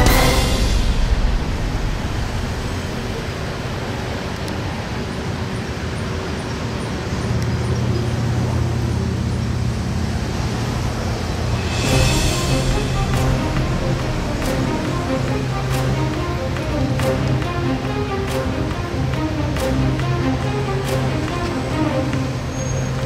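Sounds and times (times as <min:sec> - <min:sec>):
low engine drone: 0:00.0 - 0:23.0
passing traffic: 0:00.0 - 0:23.0.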